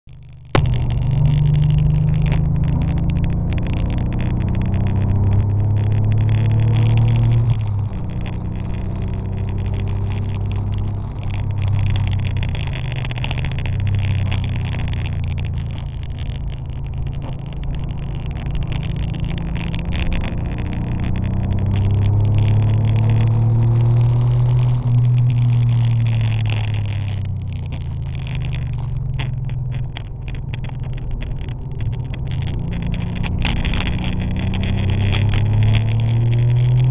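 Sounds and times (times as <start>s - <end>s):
car engine revving and shifting: 0.6s - 36.9s.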